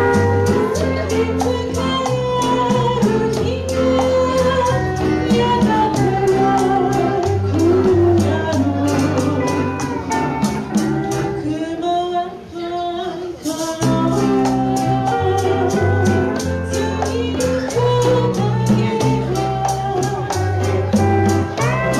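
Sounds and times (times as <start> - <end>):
maracas shaking: 0.0 - 11.8, 13.3 - 21.9
congas: 0.0 - 21.9
guitar: 0.0 - 21.9
woman singing: 0.0 - 21.9.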